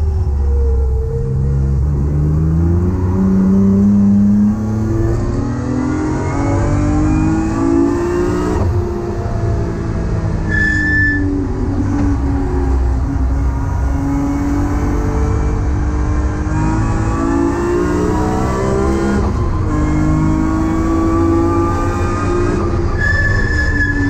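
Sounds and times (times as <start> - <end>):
car engine accelerating hard: 0.0 - 10.6, 11.3 - 24.0.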